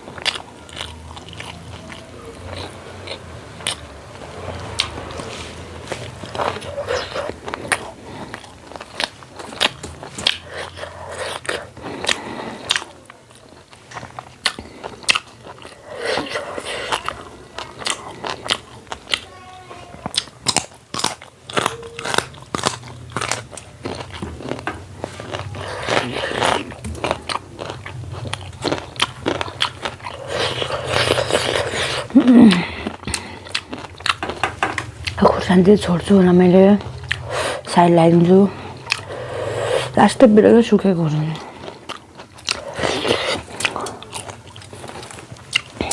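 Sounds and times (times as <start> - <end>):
person chewing and biting: 0.0 - 19.4, 20.0 - 35.2, 36.8 - 40.0, 41.4 - 45.9.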